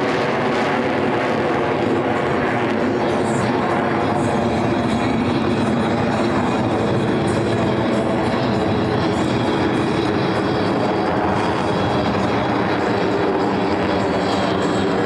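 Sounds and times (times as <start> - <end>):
jet engines rushing overhead: 0.0 - 15.0.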